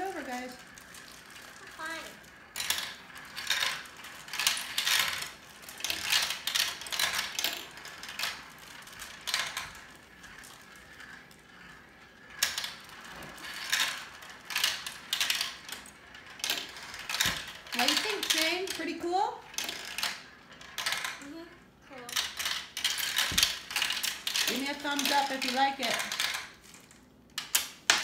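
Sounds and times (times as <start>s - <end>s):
marbles clattering down plastic tracks: 0.0s - 21.4s, 22.0s - 28.0s.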